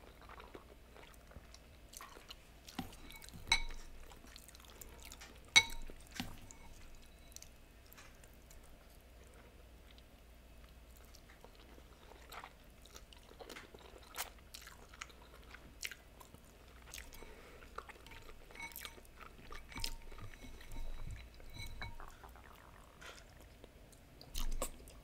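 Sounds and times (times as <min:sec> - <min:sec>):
chewing noodles: 0:00.0 - 0:03.4, 0:07.4 - 0:25.0.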